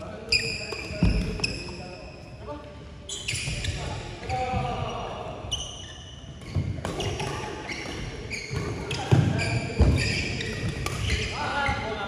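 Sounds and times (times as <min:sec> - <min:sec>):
shoes squeaking on court: 0:00.3 - 0:02.2, 0:03.0 - 0:11.9.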